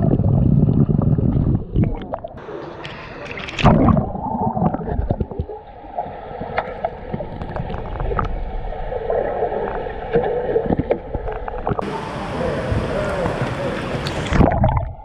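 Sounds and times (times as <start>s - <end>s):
clicks and knocks underwater: 0.0s - 11.8s, 13.3s - 15.0s
water churning and bubbling underwater: 0.0s - 15.0s.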